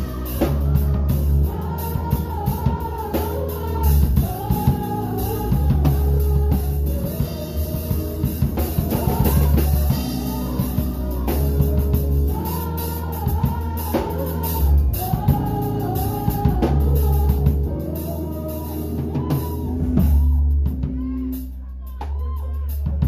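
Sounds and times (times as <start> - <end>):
acoustic drum kit playing: 0.0 - 23.0
recorded song with singing: 0.0 - 23.0.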